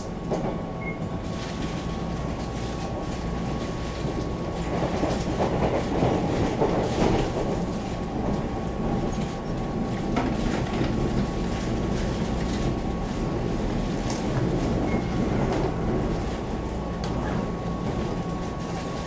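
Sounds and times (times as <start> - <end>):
rail clicks: 0.0 - 19.0
train wheels rumbling on rail: 0.0 - 19.0.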